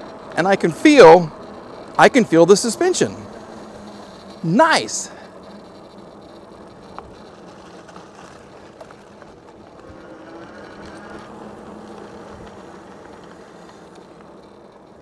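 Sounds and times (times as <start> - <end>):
electric bike motor whirring: 0.0 - 15.0
faint high motor whine: 0.0 - 15.0.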